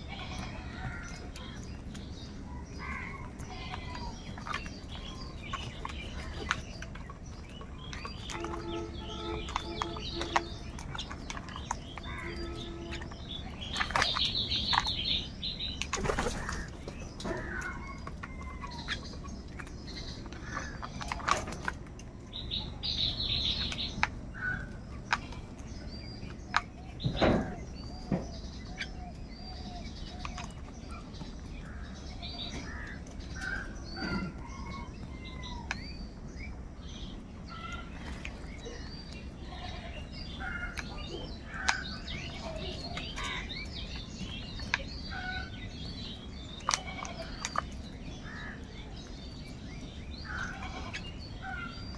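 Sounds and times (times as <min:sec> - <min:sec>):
crows calling: 0:00.0 - 0:01.6, 0:02.2 - 0:06.8, 0:08.0 - 0:15.2, 0:16.0 - 0:21.7, 0:22.6 - 0:25.3, 0:26.5 - 0:35.8, 0:37.4 - 0:38.1, 0:39.4 - 0:49.1, 0:50.2 - 0:51.9.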